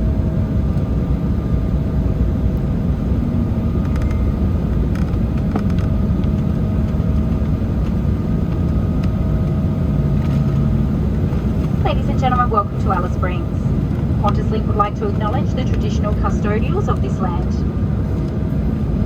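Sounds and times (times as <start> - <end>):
faint steady whine: 0.0 - 19.0
jet engines low rumble: 0.0 - 19.0.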